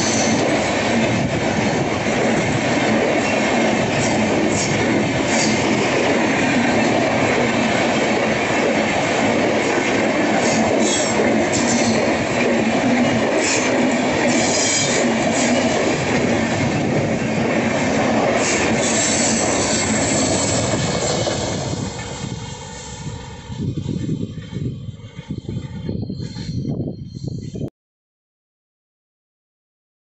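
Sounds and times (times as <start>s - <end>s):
train wheels rumbling on rail: 0.0s - 27.7s.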